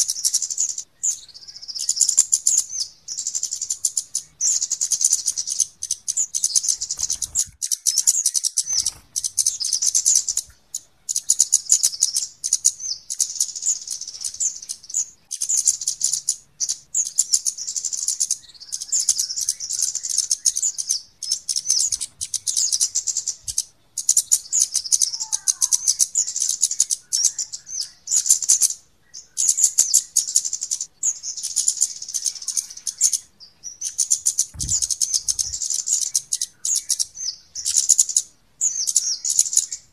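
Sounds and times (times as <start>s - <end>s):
birds high ticking chirps: 0.0s - 39.9s.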